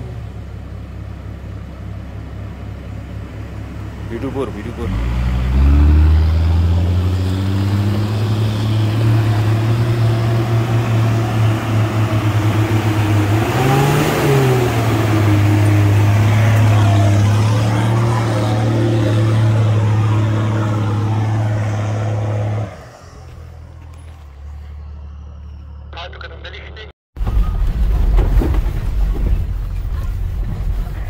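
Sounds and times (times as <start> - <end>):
car engine drone: 0.0 - 31.0
road noise: 0.0 - 31.0.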